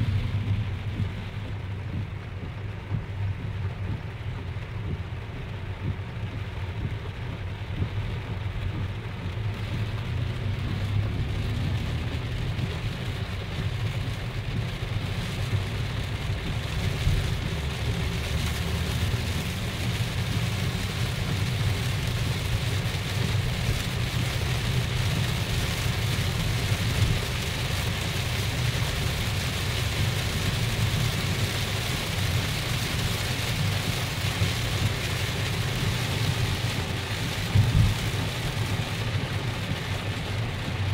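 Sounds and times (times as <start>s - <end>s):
heavy rain on car roof: 0.0s - 40.9s
low road rumble: 0.0s - 40.9s.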